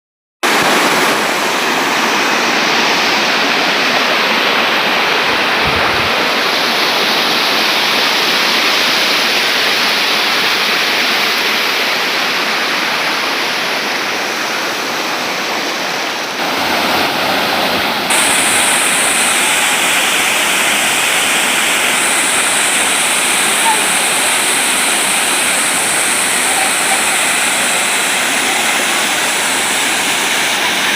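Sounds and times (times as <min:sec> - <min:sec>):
waterfall rushing: 0:00.4 - 0:30.9.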